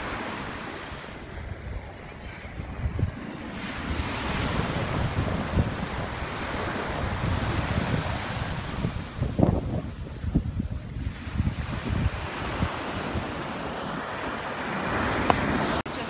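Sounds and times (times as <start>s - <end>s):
wind rumbling on microphone: 0.0s - 15.8s
surf washing onto beach: 0.0s - 16.0s.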